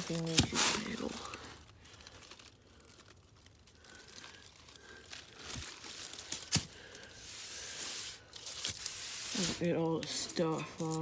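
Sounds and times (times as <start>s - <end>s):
rustling and crinkling: 0.0s - 11.0s.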